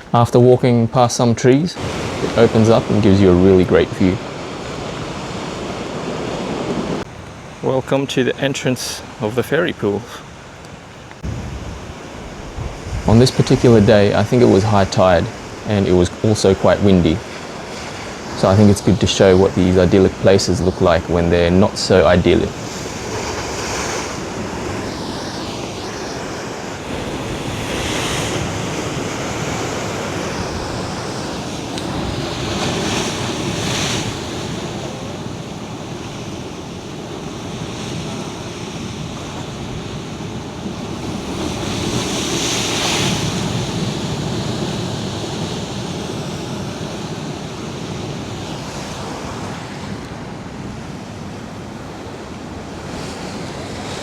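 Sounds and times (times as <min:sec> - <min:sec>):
ocean waves breaking: 0:01.4 - 0:54.0
wind buffeting microphone: 0:10.6 - 0:54.0.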